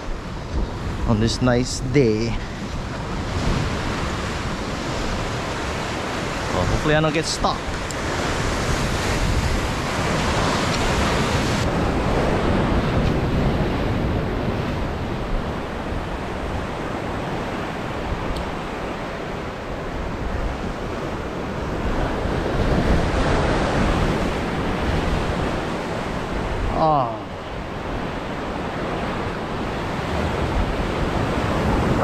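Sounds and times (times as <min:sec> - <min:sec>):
surf breaking over rocks: 0:00.0 - 0:32.0.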